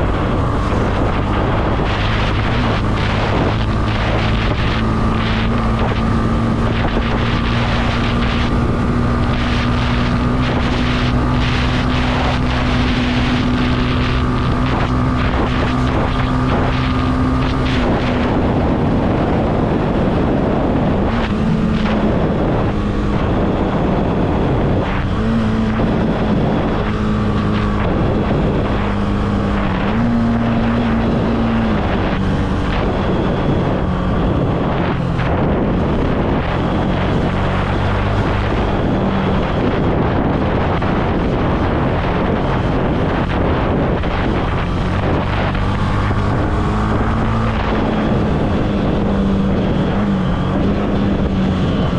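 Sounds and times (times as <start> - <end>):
motorcycle engine revving: 0.0 - 51.9
wind noise on microphone: 0.0 - 51.9.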